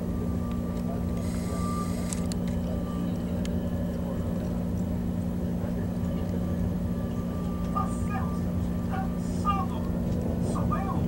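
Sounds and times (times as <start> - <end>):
train coach running hum and rumble: 0.0 - 11.0.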